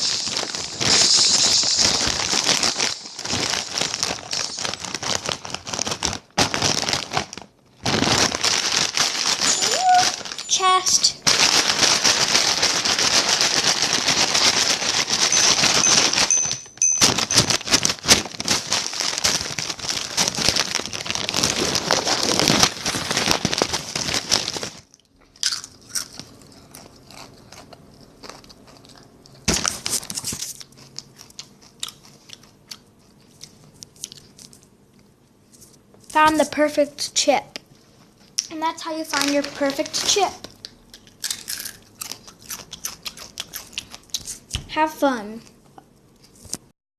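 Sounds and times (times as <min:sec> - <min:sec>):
chip bag crinkling: 0:00.0 - 0:34.7, 0:38.2 - 0:44.5.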